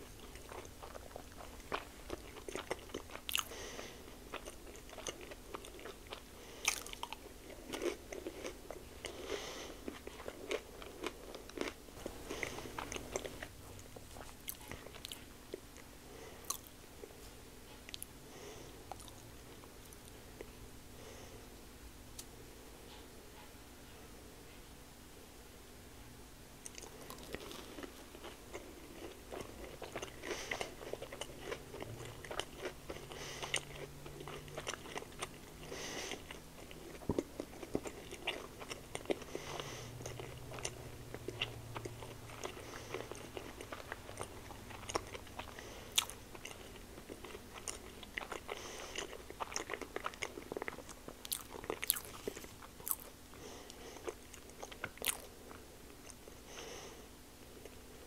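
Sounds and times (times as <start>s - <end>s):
person chewing and biting: 0.0s - 16.8s, 18.9s - 20.1s, 26.6s - 56.8s.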